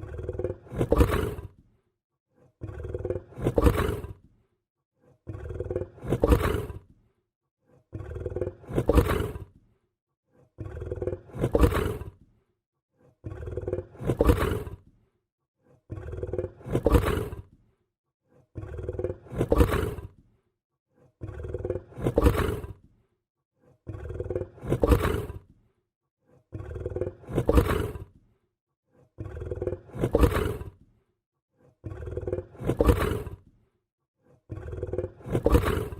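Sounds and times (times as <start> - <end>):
lion growling: 0.0 - 12.4, 13.0 - 23.0, 23.6 - 31.0, 31.6 - 35.9.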